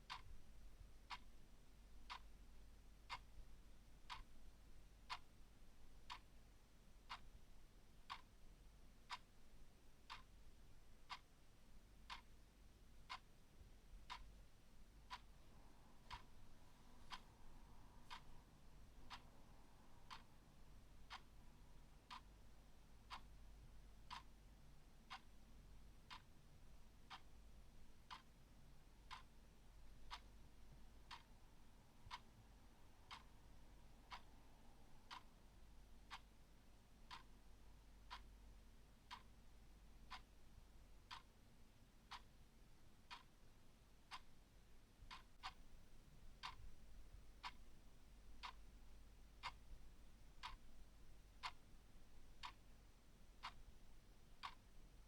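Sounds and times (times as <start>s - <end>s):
clock ticking: 0.0s - 42.5s, 43.1s - 43.4s, 44.0s - 55.0s.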